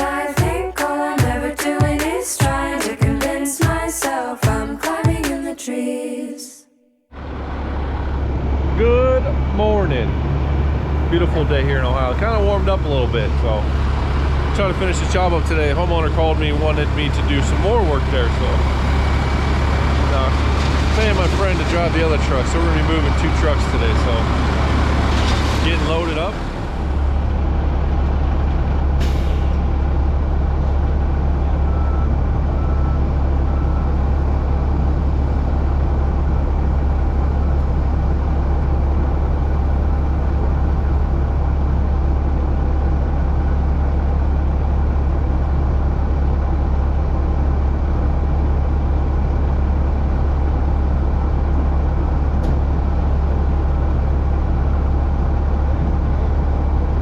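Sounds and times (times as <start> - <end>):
diesel truck engine droning: 0.0 - 5.5, 7.1 - 57.0.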